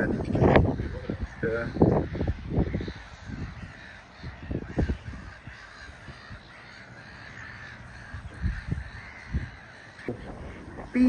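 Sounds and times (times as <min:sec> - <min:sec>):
gulls calling: 0:00.0 - 0:11.0
wind buffeting microphone: 0:00.0 - 0:11.0.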